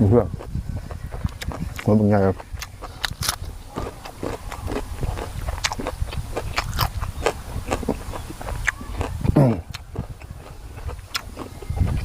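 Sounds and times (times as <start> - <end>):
crunching and chewing food: 0.0 - 12.0.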